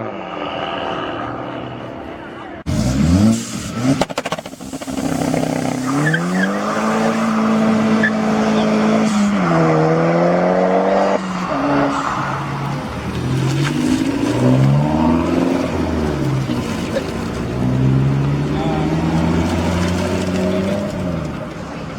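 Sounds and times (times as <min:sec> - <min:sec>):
car engine revving hard: 0:02.7 - 0:21.8.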